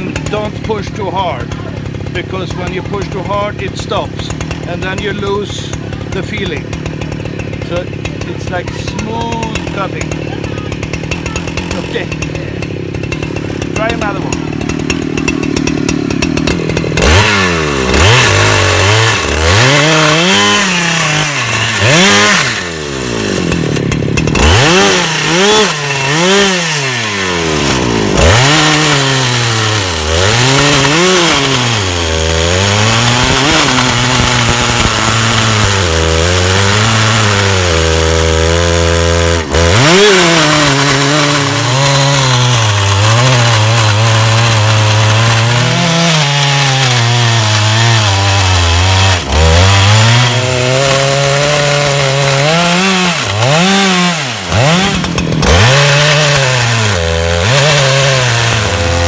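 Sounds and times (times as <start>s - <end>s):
chainsaw ripping a plank: 0.0s - 59.0s.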